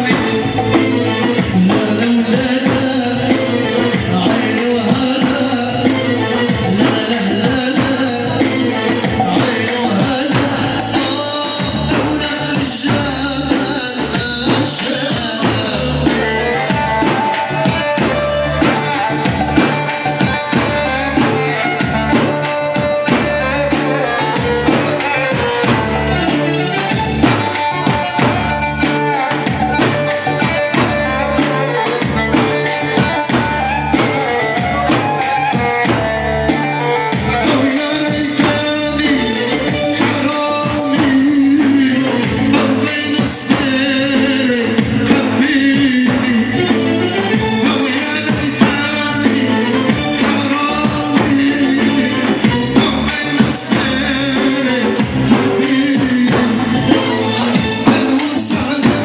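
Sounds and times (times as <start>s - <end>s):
bass drum beating: 0.0s - 59.0s
folk dance music: 0.0s - 59.0s.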